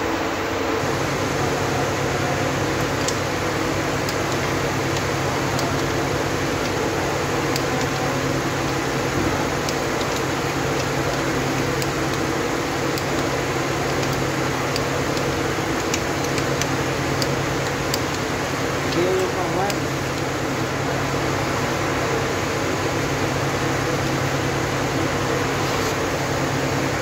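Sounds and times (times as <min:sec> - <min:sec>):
machine humming and whirring: 0:00.0 - 0:27.0.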